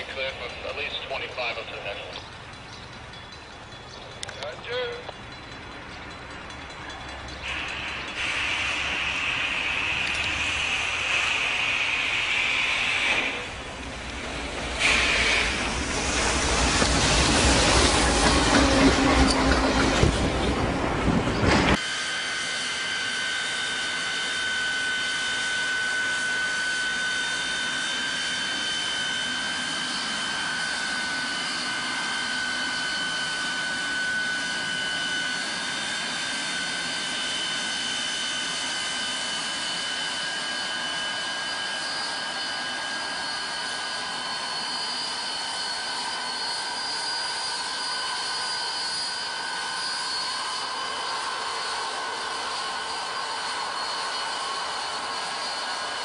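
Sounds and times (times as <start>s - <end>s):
snow blower high-pitched whine: 6.9s - 20.5s, 21.2s - 56.0s.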